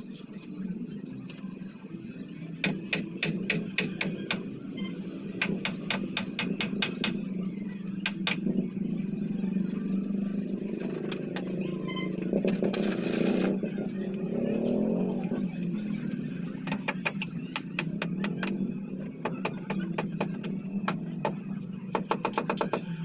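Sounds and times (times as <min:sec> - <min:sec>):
low drone: 0:00.0 - 0:23.0.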